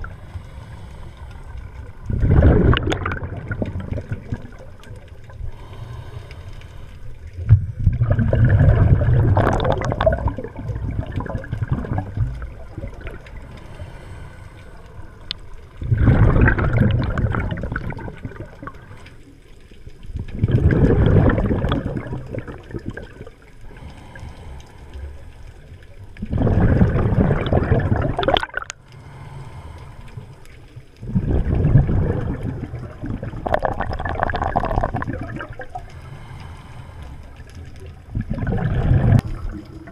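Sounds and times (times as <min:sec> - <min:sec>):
exhaled bubbles rushing: 0:00.0 - 0:06.0, 0:06.7 - 0:14.2, 0:15.0 - 0:19.0, 0:20.1 - 0:24.2, 0:25.3 - 0:28.9, 0:30.8 - 0:36.3, 0:37.4 - 0:39.9.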